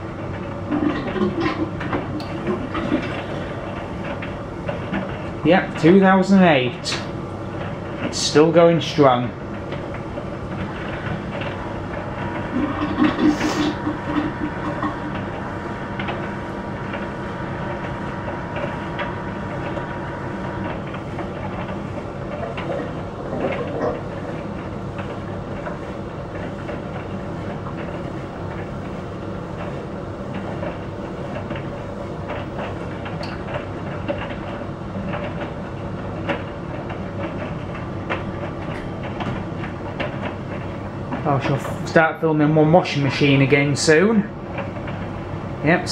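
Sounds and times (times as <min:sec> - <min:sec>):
dryer drum turning: 0:00.0 - 0:45.9
tumble dryer motor humming: 0:00.0 - 0:45.9.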